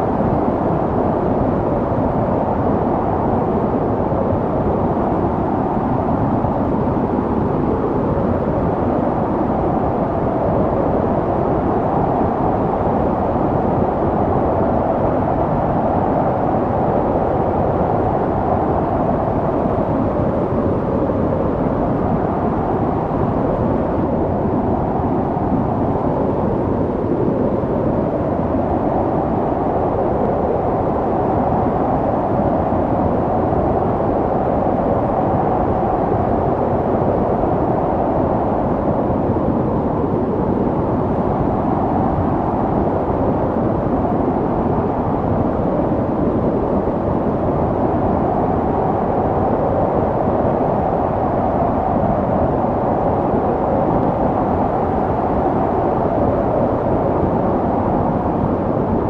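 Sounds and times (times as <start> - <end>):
snowstorm wind blowing: 0.0 - 59.0.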